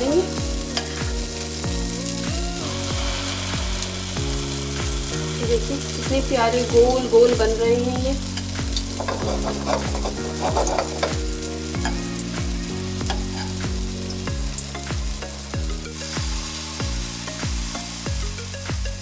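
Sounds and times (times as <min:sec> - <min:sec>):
background music with beat: 0:00.0 - 0:19.0
batter frying in hot oil: 0:00.0 - 0:19.0.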